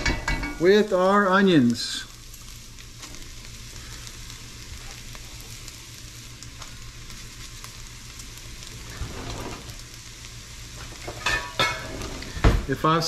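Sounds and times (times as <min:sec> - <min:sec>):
vegetables sizzling in fat: 0:00.0 - 0:13.0.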